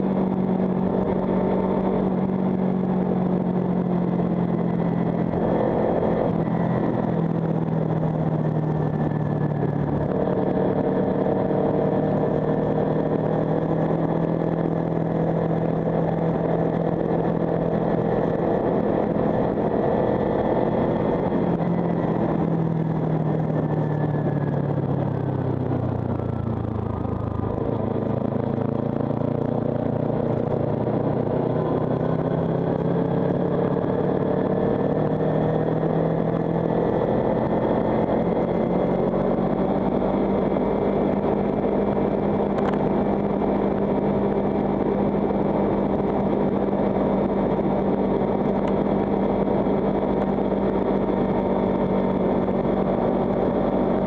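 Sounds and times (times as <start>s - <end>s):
motorcycle engine: 0.0s - 54.0s
road noise: 0.0s - 54.0s
wind noise: 0.0s - 54.0s.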